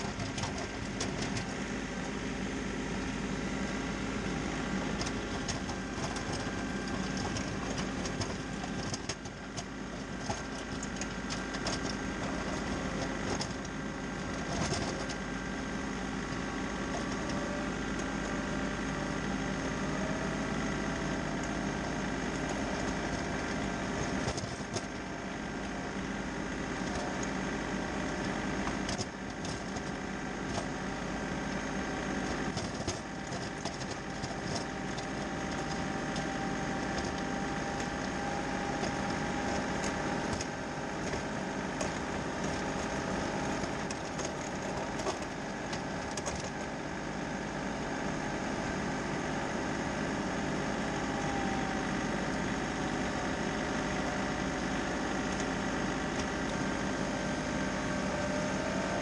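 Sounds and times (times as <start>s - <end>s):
snow-clearing machine engine: 0.0s - 59.0s.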